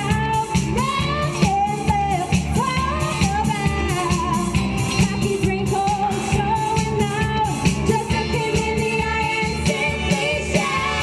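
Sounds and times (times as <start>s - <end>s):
backing track with steady beat: 0.0s - 11.0s
women singing pop song: 0.0s - 11.0s.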